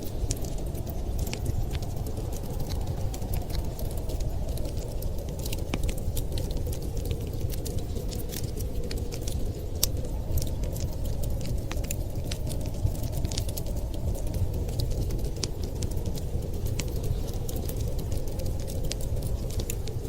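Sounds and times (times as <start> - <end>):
wood fire crackling: 0.0 - 20.0
sharp pops and ticks: 0.1 - 20.0.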